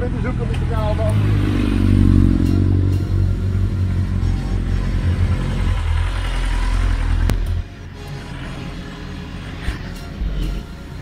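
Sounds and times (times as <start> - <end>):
vehicle engine drone: 0.0 - 11.0.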